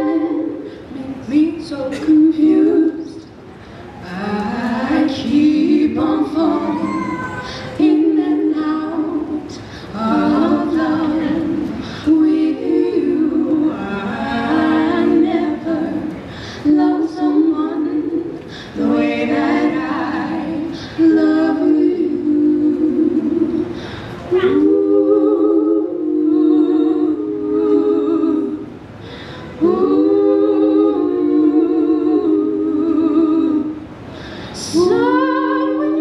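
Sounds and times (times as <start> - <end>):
women singing a cappella: 0.0 - 36.0.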